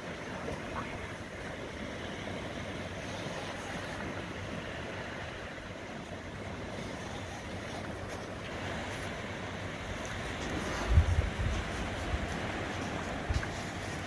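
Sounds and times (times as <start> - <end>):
small surf breaking: 0.0 - 14.0
wind buffeting microphone: 0.0 - 14.0.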